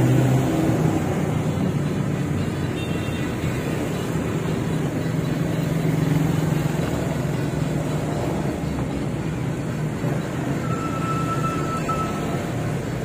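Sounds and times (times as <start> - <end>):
motorcycles passing: 0.0 - 13.0
trucks passing: 0.0 - 13.0.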